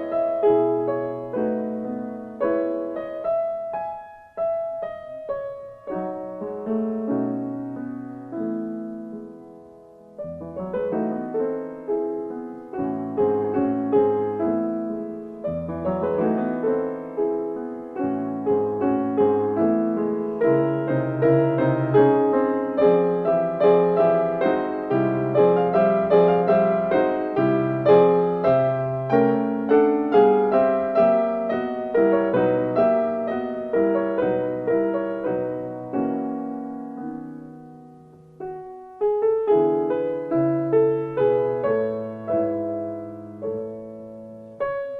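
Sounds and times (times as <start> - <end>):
gentle piano music: 0.0 - 44.9.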